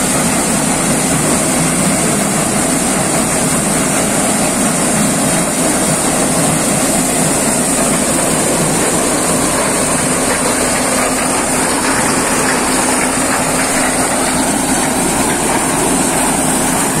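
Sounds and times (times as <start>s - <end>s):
thresher machine running: 0.0s - 17.0s.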